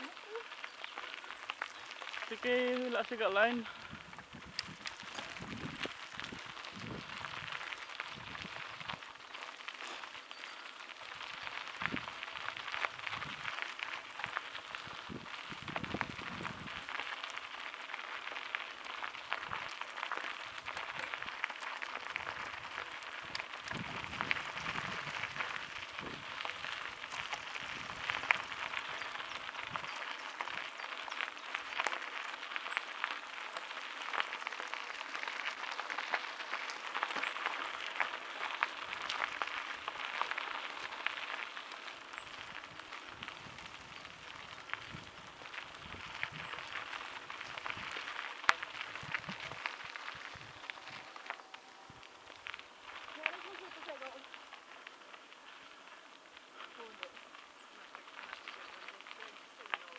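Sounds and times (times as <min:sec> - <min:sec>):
bike tyres crunching on gravel: 0:00.0 - 0:59.9
bike clicks and rattles: 0:03.7 - 0:53.2.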